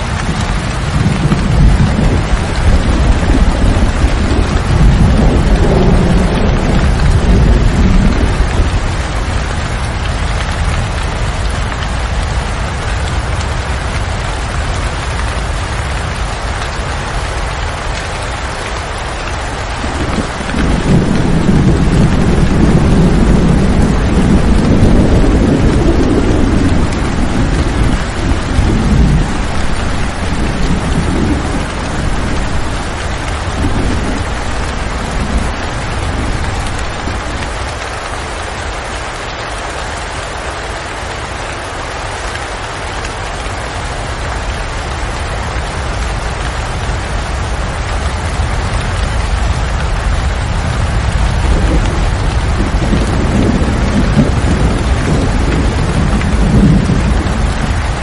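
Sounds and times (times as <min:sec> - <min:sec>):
low rumble of thunder: 0:00.0 - 0:39.3, 0:41.7 - 0:58.0
heavy rain: 0:00.0 - 0:58.0.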